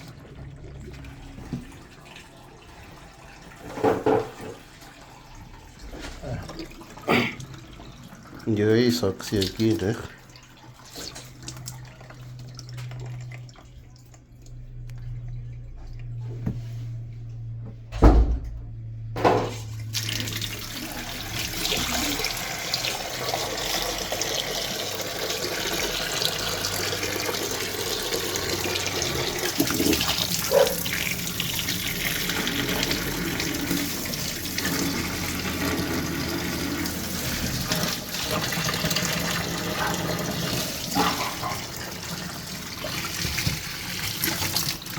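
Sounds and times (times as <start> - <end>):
water gushing down a drain: 0.0 - 16.4, 19.7 - 44.9.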